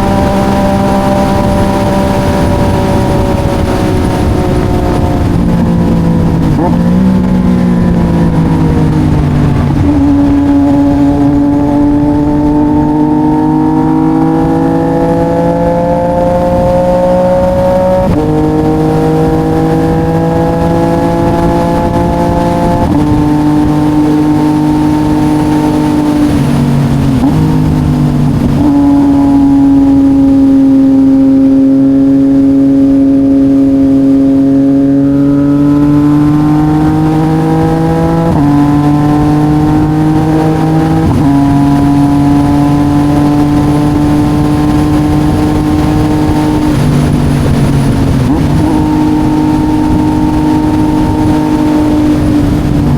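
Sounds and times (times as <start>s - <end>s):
motorcycle engine with gear changes: 0.0s - 52.9s.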